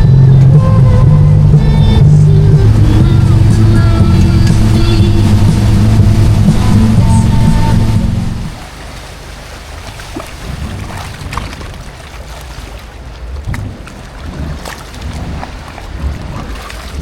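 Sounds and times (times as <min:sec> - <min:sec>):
motorboat engine rumbling: 0:00.0 - 0:17.0
water splashing: 0:00.0 - 0:17.0
wind buffeting microphone: 0:00.0 - 0:17.0.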